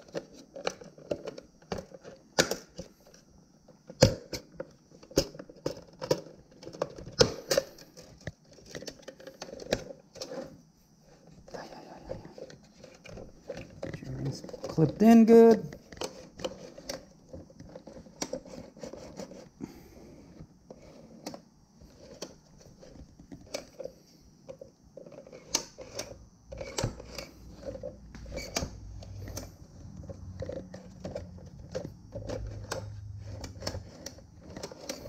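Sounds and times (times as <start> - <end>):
plastic parts clicking and rattling: 0.0 - 35.0.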